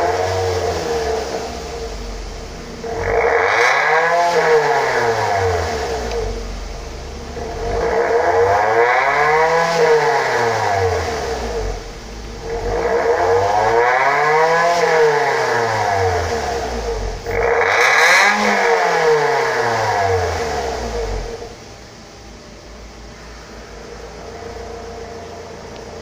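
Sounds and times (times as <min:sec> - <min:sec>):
engine revving: 0:00.0 - 0:22.0, 0:22.6 - 0:26.0.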